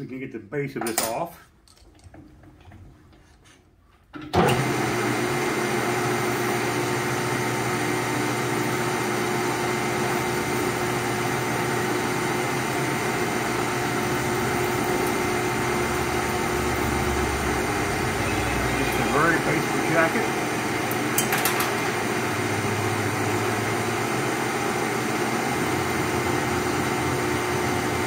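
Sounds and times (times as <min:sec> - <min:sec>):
lathe motor hum and whine: 0:04.4 - 0:28.0.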